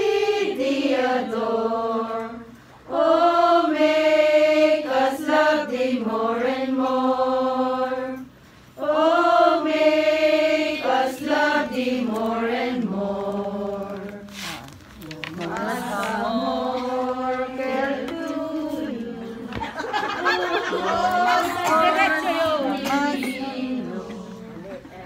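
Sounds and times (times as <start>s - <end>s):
group singing a hymn: 0.0s - 25.0s.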